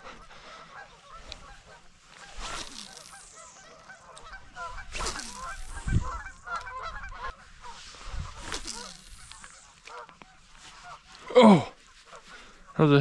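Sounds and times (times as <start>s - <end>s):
geese honking: 0.0s - 11.3s.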